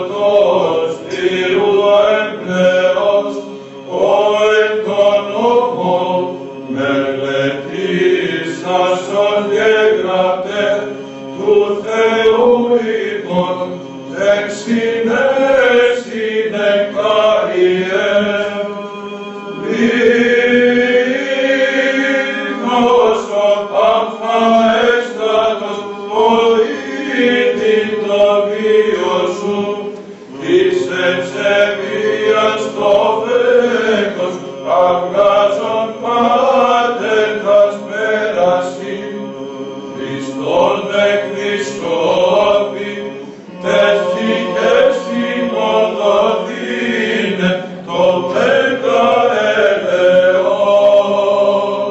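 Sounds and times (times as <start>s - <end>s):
low held vocal drone: 0.0s - 51.9s
men chanting in unison: 0.0s - 51.9s.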